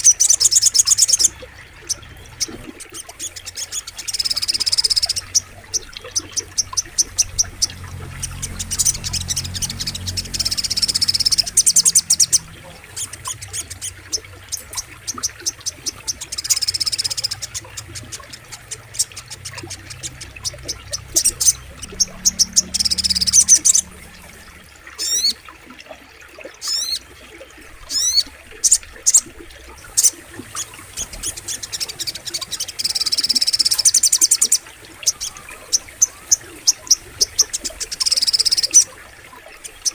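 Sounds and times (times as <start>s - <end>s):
bird high-pitched repeated chips: 0.0s - 23.9s, 25.0s - 25.4s, 29.9s - 38.9s.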